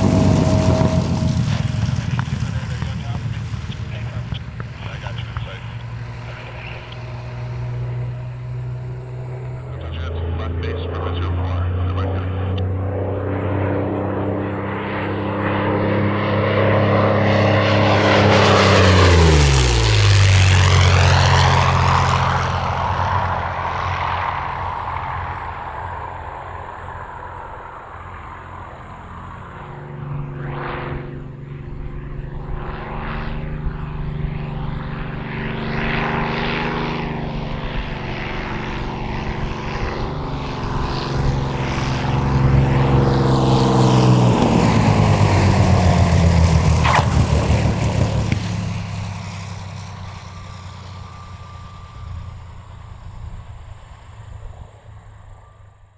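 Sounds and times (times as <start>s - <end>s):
propeller aircraft passing low: 0.0s - 55.9s.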